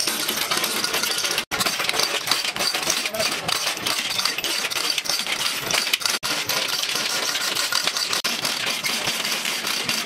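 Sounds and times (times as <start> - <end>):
chain hoist clinking and rattling: 0.0 - 10.0.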